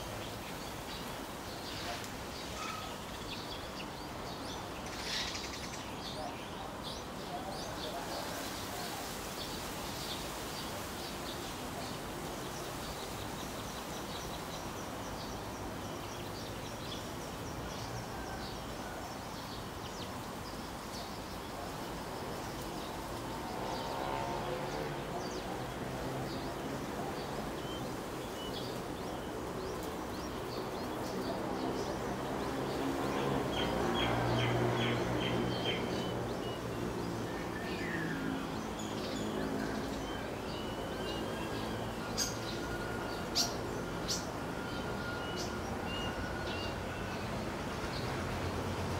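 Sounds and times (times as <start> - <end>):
outdoor background noise: 0.0 - 48.9
small birds chirping: 0.0 - 48.9.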